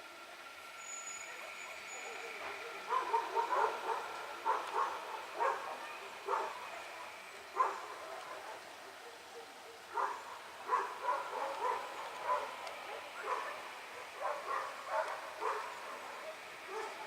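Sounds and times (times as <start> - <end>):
dog barking: 2.5 - 17.0.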